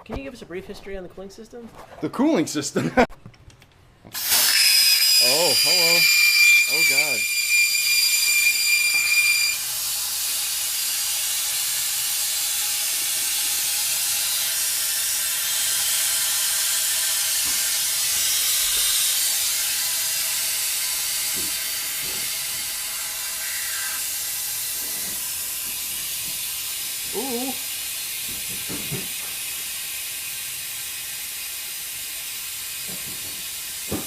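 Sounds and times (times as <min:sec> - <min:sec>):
compressed air hissing: 0:04.1 - 0:34.0.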